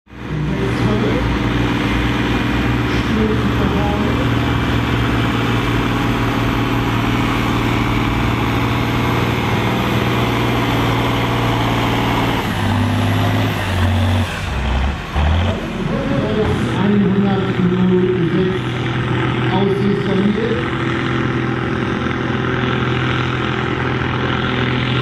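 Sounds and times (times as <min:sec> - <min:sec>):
tractor diesel engine under load: 0:00.1 - 0:25.0.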